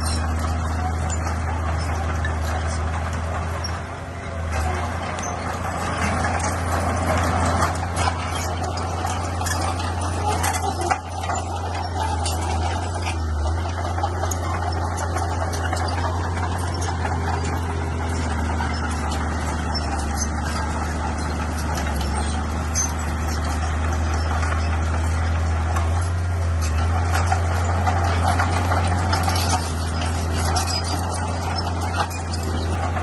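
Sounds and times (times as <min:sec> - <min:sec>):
diesel engine droning: 0:00.0 - 0:33.0
metal clanks: 0:00.0 - 0:33.0.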